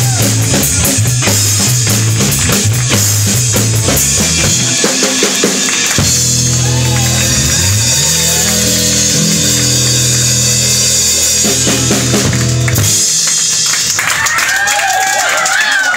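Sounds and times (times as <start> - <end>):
electric bass notes: 0.0 - 14.0
soul band playing: 0.0 - 14.0.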